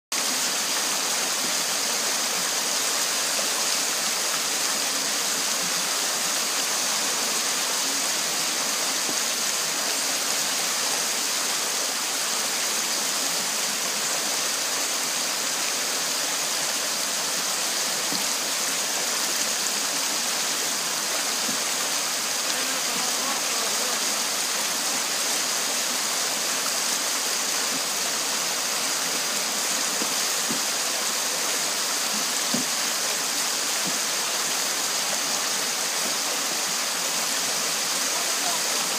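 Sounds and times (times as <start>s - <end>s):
water rushing over rocks: 0.1s - 38.9s.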